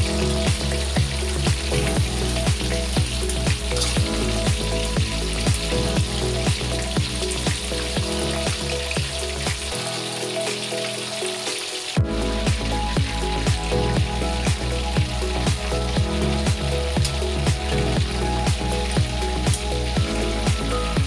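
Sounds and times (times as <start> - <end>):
background music with beat: 0.0 - 21.0
chicken sizzling in hot oil: 0.0 - 21.0.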